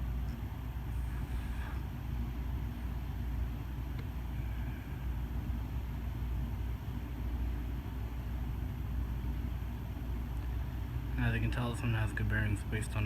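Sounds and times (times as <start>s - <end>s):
ceiling fan spinning down: 0.0s - 13.0s.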